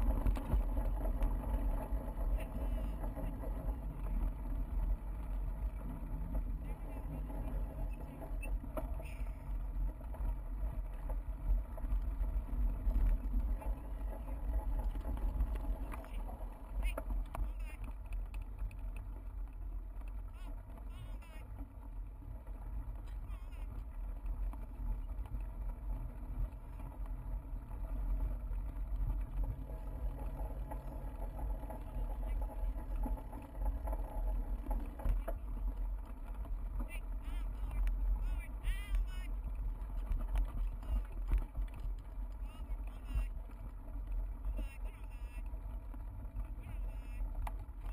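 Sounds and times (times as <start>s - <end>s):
bicycle rolling over bumpy trail: 0.0s - 47.9s
wind rumble: 0.0s - 47.9s.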